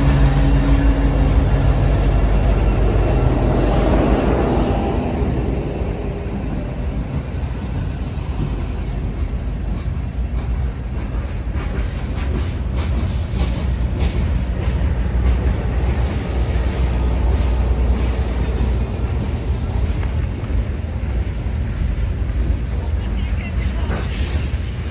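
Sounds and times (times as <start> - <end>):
wheels clicking over rail joints: 0.0 - 22.9
train rumbling past: 0.0 - 24.9.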